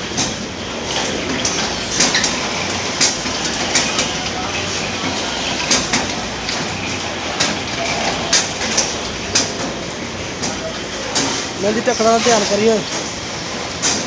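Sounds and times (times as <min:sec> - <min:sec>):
bottle filling machine running: 0:00.0 - 0:14.0.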